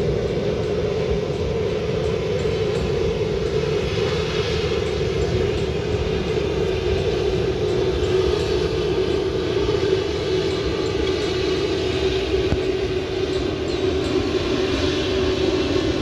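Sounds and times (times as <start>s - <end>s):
combine harvester engine droning: 0.0s - 16.0s.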